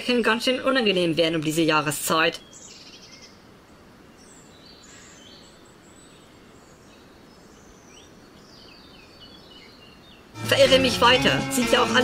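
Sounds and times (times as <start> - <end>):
steady background hiss: 0.0 - 12.0
birds chirping: 0.5 - 12.0.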